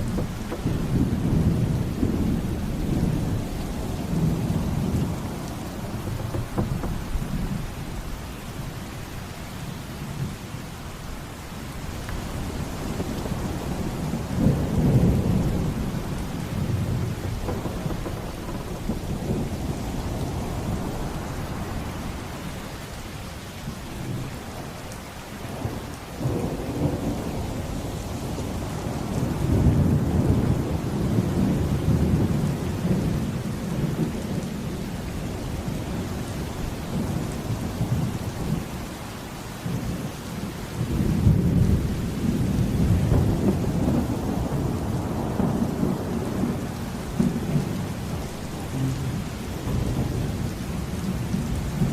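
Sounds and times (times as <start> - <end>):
rolling thunder: 0.0 - 8.8, 11.8 - 22.5, 25.4 - 39.0, 40.8 - 51.9
heavy rain: 0.0 - 51.9.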